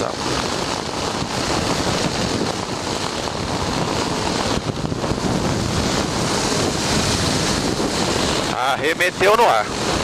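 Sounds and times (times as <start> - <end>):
small aircraft engine running: 0.0 - 10.0
wind buffeting microphone: 0.0 - 10.0.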